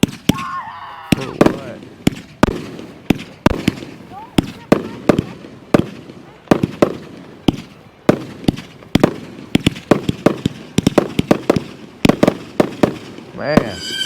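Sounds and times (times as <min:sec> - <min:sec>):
fireworks sharp bangs: 0:00.0 - 0:14.0.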